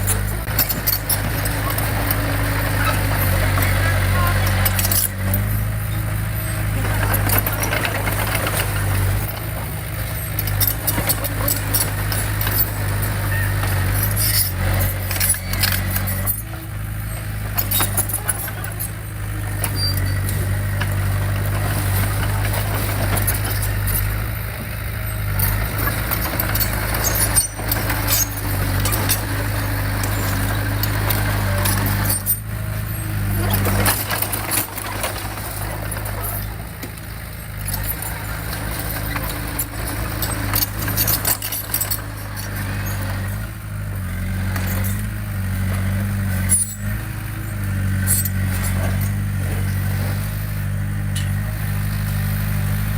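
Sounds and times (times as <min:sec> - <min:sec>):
metallic clanks and squeaks: 0:00.0 - 0:24.3, 0:25.0 - 0:51.9
heavy diesel engine under load: 0:00.0 - 0:52.9.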